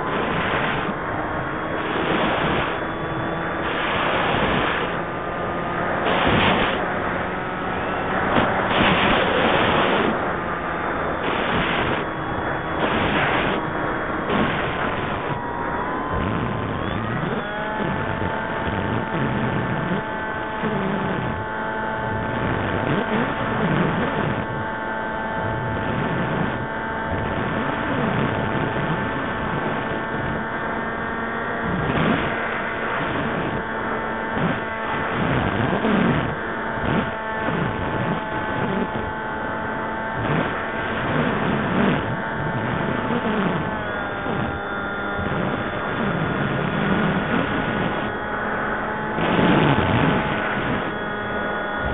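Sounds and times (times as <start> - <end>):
rushing airflow noise: 0.0 - 51.9.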